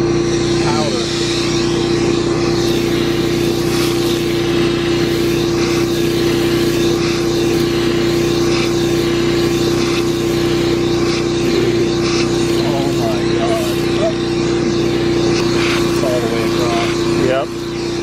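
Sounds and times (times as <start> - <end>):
vacuum motor drone: 0.0 - 18.0.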